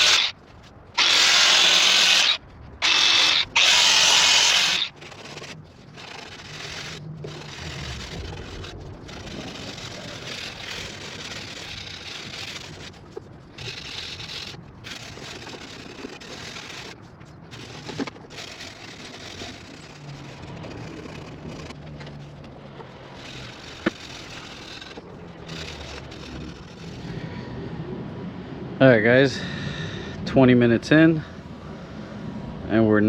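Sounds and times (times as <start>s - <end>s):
sandpaper scraping fiberglass: 0.0s - 27.1s.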